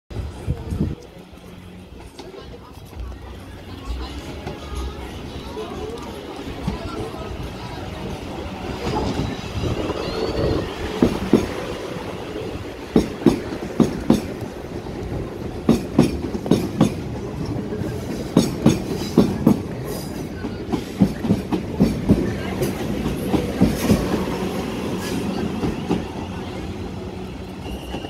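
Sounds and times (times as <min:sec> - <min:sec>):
train rolling rumble: 0:00.1 - 0:28.0.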